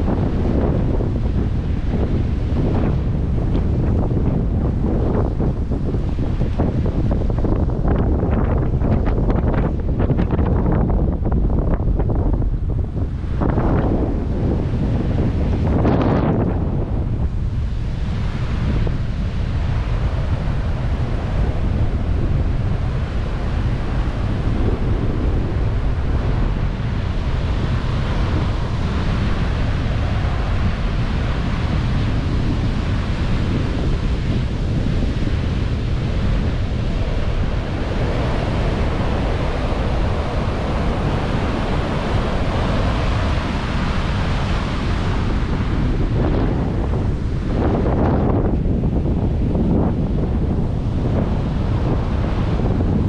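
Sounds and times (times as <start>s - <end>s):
surf breaking on beach: 0.0s - 53.0s
wind buffeting microphone: 0.0s - 53.0s.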